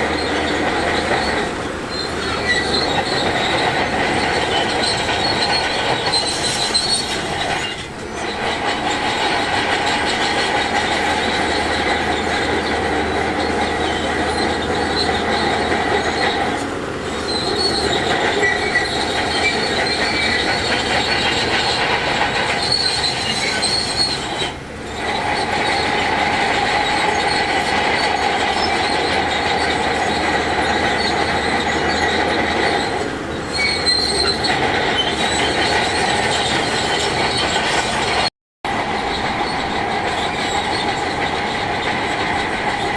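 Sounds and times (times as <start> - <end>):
bulldozer pushing rock: 0.0 - 42.9
steel tracks squealing and clanking: 0.0 - 42.9.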